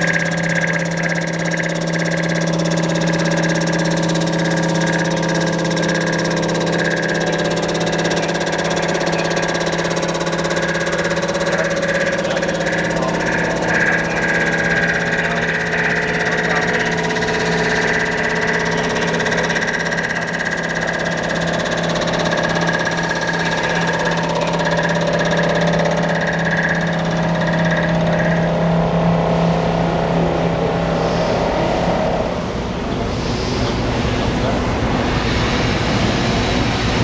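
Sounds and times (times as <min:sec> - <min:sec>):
low machine hum: 0:00.0 - 0:37.0
machine whine: 0:00.0 - 0:37.0.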